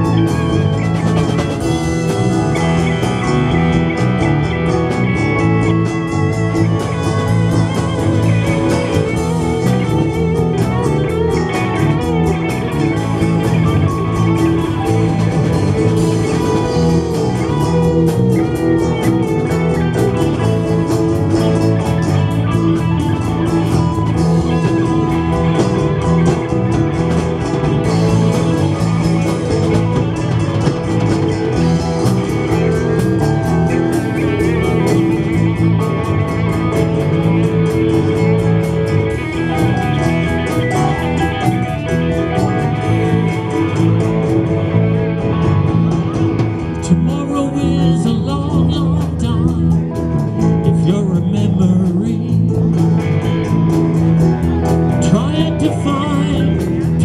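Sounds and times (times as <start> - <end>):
live blues-rock band: 0.0 - 57.0.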